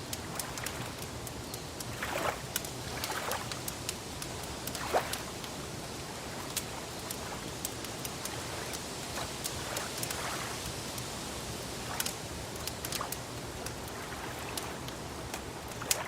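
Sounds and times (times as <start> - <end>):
wood fire crackling: 0.0 - 16.0
water lapping: 0.1 - 1.2, 1.8 - 16.0.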